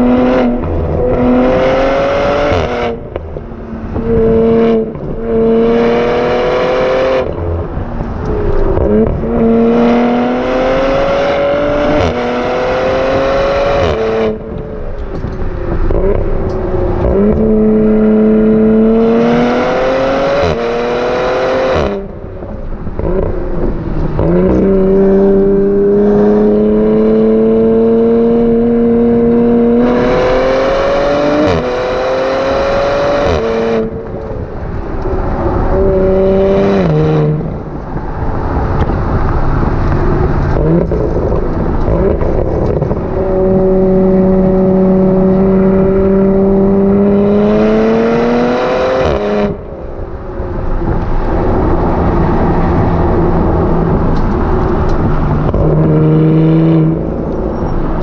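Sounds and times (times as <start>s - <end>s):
car exhaust while driving: 0.0s - 58.0s.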